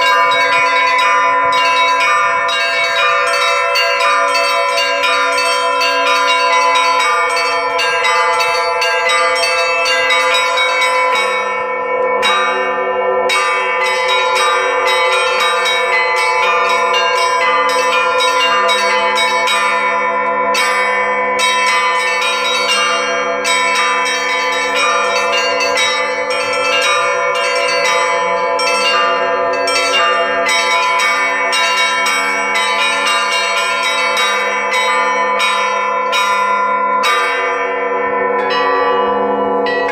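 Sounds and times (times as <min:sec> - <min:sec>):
deep bells ringing: 0:00.0 - 0:39.9
large bells ringing: 0:00.0 - 0:39.9.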